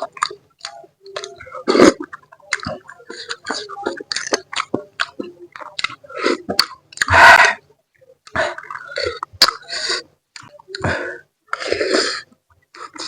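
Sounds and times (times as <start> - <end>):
mouth sounds of person eating: 0.0 - 13.0.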